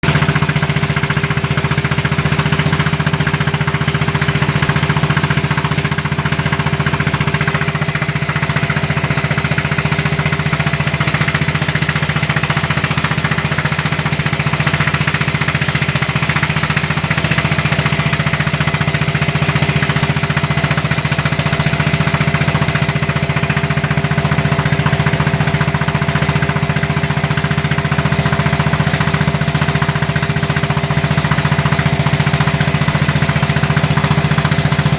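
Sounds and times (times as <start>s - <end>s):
diesel boat engine knocking: 0.0s - 34.9s.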